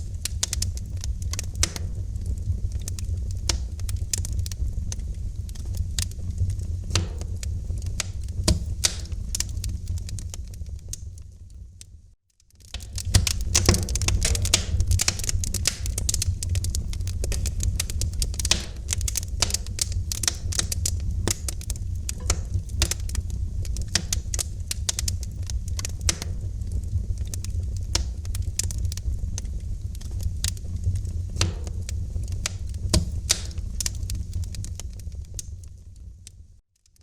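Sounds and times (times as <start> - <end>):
low rumble of flames: 0.0 - 36.6
wood fire crackling and popping: 0.0 - 37.0.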